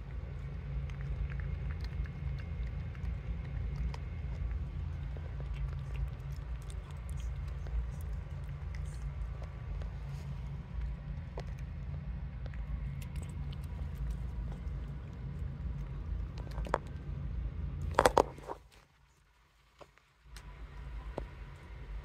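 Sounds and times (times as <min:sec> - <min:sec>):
cats licking and chewing: 0:00.0 - 0:22.0
steady low hum: 0:00.0 - 0:22.0.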